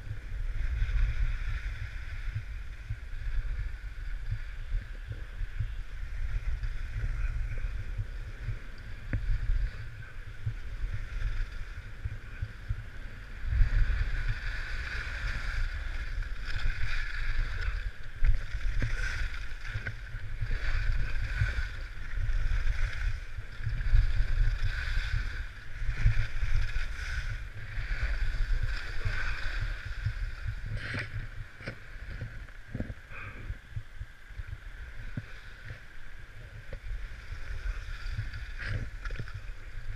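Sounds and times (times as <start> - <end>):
skis carving packed snow: 0.0 - 39.9
wind buffeting microphone: 0.0 - 39.9.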